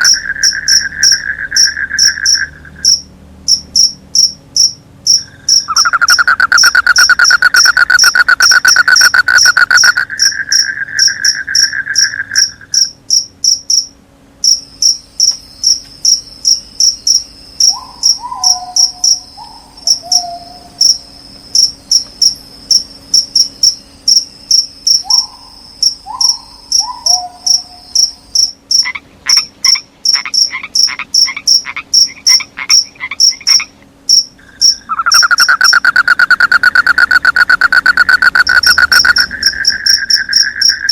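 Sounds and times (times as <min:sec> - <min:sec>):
crickets chirping: 0:00.0 - 0:40.9
frogs calling: 0:00.0 - 0:40.9.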